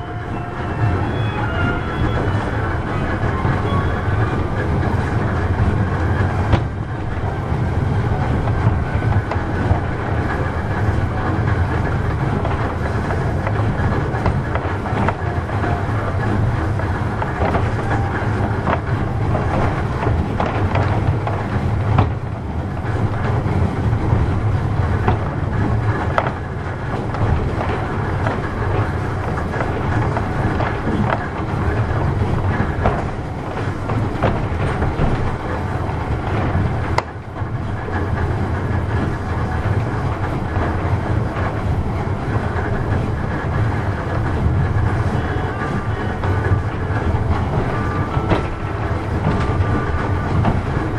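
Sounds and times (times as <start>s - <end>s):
funicular wheels rumbling on rails: 0.0s - 50.9s
rail clicks: 0.0s - 50.9s.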